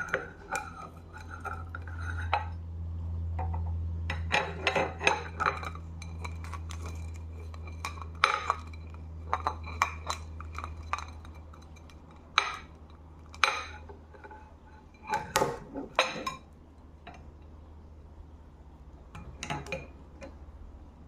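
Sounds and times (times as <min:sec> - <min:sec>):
tableware clinking: 0:00.0 - 0:02.5, 0:03.4 - 0:17.6, 0:19.1 - 0:20.4
steady low hum: 0:00.0 - 0:21.0.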